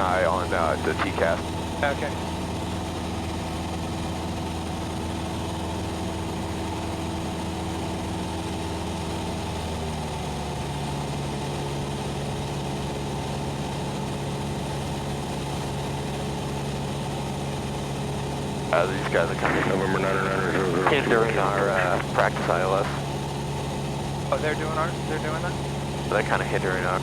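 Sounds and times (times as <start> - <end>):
aircraft engine and propeller droning: 0.0 - 27.0.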